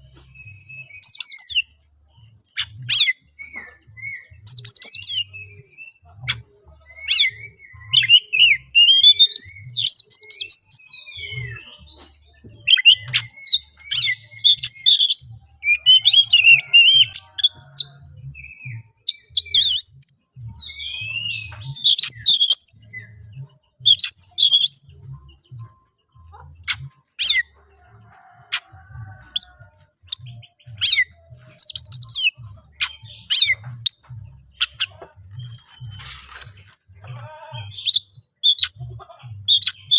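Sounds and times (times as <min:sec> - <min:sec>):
songbird singing whistles and trills: 0:00.0 - 0:01.8, 0:02.4 - 0:25.9, 0:29.2 - 0:36.3, 0:37.5 - 0:39.9.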